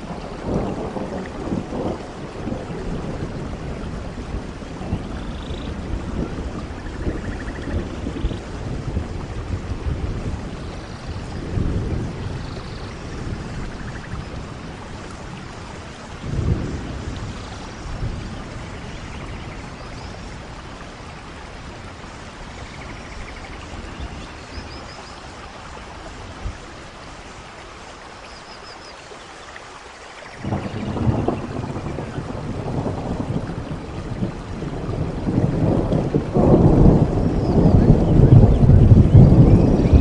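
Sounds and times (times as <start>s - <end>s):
wind buffeting microphone: 0.0s - 28.2s, 30.4s - 40.0s
rain hissing: 0.0s - 40.0s.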